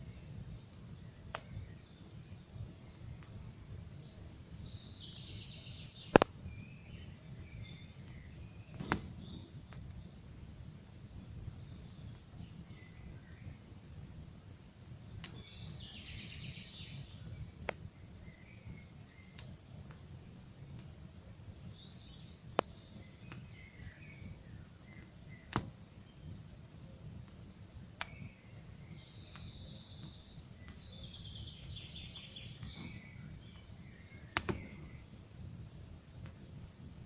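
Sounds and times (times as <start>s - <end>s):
campfire burning with pops: 0.0s - 37.0s
birds chirping: 0.2s - 37.0s.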